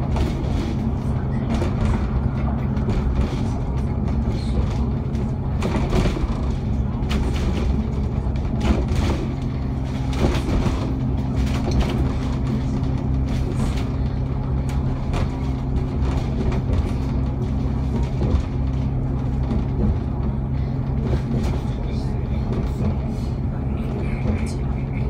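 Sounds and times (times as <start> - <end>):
bus engine drone: 0.0 - 25.0
light rattles and clicks: 0.0 - 25.0
road noise: 0.0 - 25.0.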